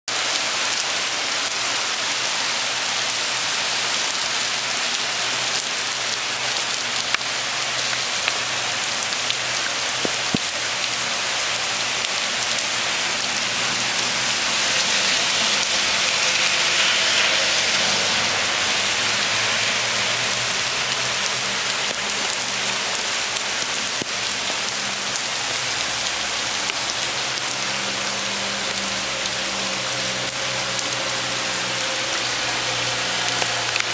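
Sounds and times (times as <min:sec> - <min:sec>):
torrential rain hissing: 0:00.1 - 0:33.9.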